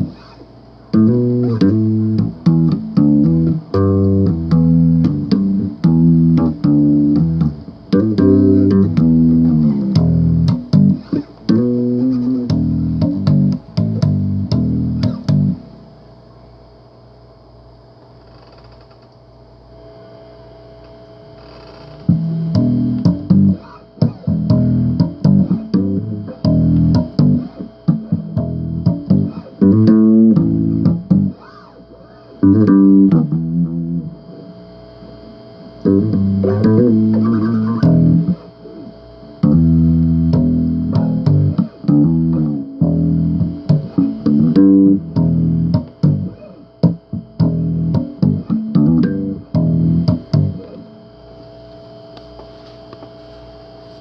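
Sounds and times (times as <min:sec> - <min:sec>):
bass guitar riffing: 0:00.0 - 0:15.8, 0:22.0 - 0:34.4, 0:35.7 - 0:51.0
faint steady tone: 0:00.0 - 0:54.0.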